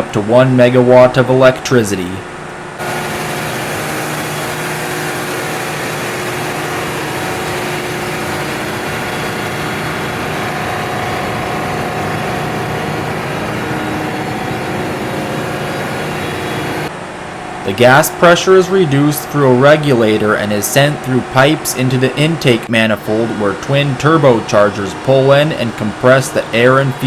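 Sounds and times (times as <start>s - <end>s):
gas engines running: 0.0s - 27.0s
steady whining tones: 0.0s - 27.0s.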